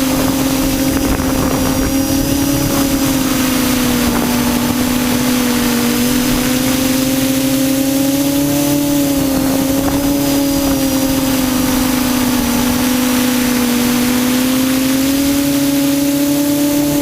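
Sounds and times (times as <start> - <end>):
air noise: 0.0 - 17.0
quadcopter motors humming: 0.0 - 17.0.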